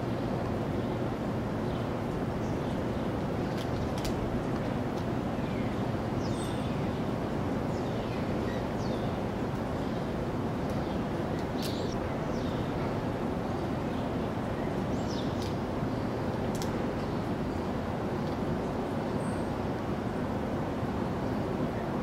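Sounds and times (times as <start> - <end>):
city background hum: 0.0 - 22.0.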